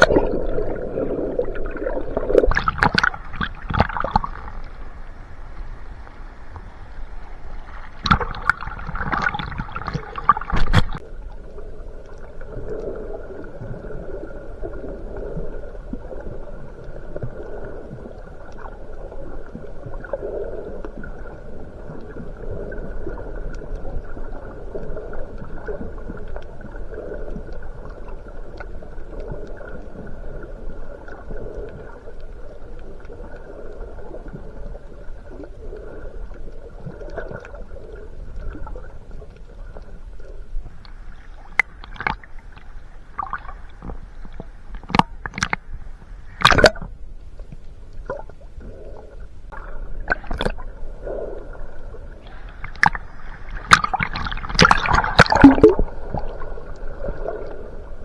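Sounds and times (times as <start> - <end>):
underwater splashing churn: 0.0 - 58.0.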